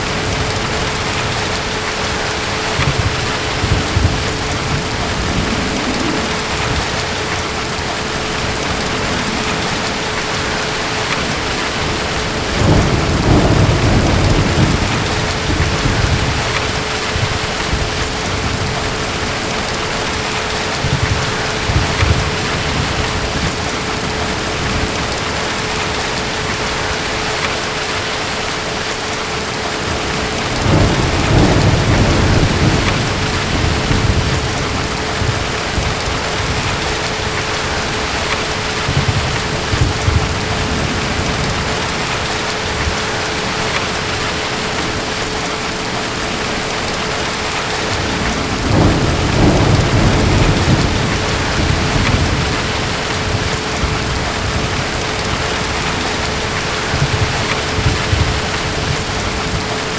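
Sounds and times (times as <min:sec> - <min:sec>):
distant thunder rumbling: 0:00.0 - 0:59.9
steady rain: 0:00.0 - 0:59.9.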